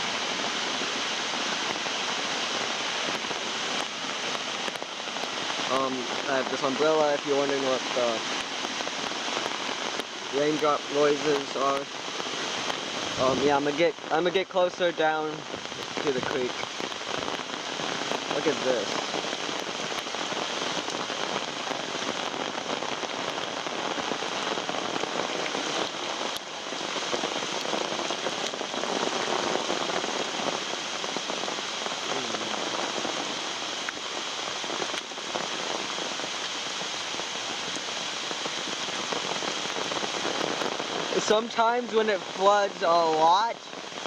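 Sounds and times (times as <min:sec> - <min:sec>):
rain pattering on an umbrella: 0:00.0 - 0:44.0.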